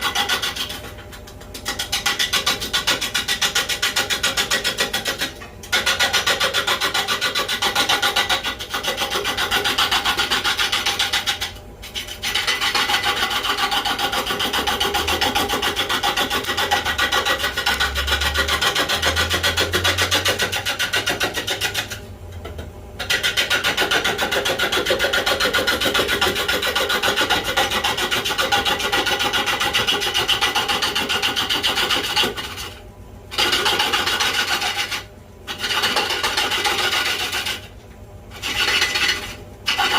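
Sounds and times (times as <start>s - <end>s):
gouge scraping wood on lathe: 0.0s - 22.0s, 23.0s - 39.9s.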